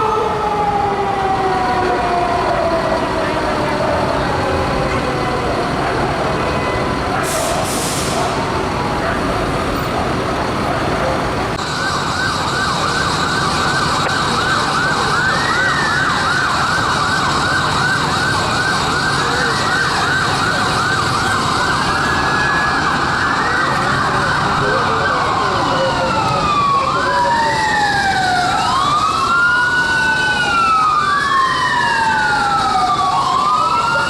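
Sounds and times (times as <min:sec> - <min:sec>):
siren wailing up and down: 0:00.0 - 0:07.2, 0:10.7 - 0:34.0
fast warbling siren: 0:00.0 - 0:34.0
heavy traffic: 0:00.0 - 0:34.0.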